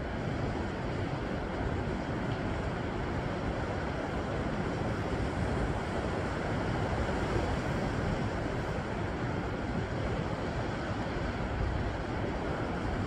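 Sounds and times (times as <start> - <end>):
sea waves breaking over rocks: 0.0 - 13.0.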